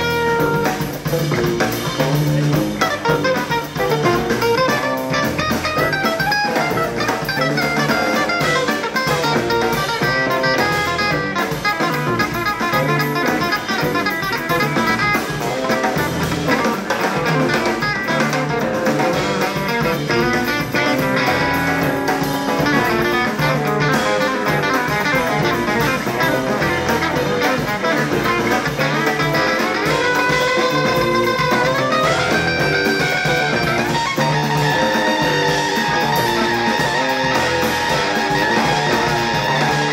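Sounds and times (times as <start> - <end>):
double bass: 0.0 - 39.9
drums: 0.0 - 39.9
electric guitars playing: 0.0 - 39.9.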